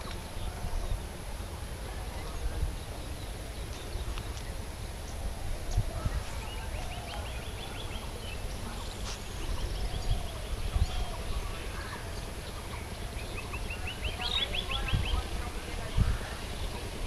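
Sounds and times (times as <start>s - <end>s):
wind rumble on microphone: 0.0s - 17.0s
faint lower bird calls: 2.0s - 16.9s.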